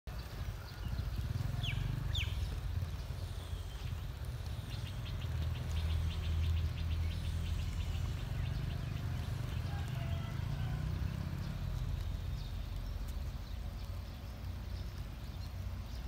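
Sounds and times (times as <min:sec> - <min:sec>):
high ticking bird calls: 0:00.1 - 0:16.0.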